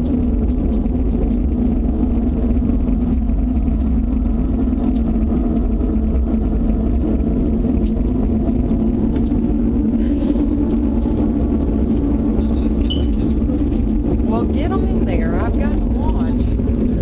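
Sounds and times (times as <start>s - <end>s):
loud rumbling drone: 0.0s - 17.0s.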